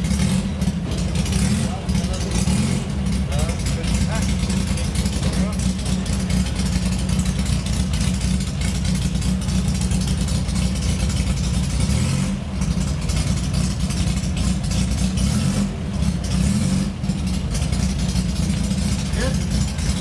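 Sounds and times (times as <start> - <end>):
racing car engine idling roughly: 0.0 - 20.0.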